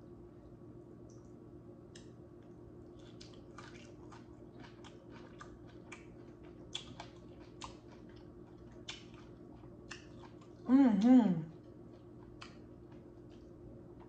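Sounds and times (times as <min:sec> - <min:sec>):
faint steady hum: 0:00.0 - 0:14.0
chewing broccoli: 0:01.9 - 0:14.0.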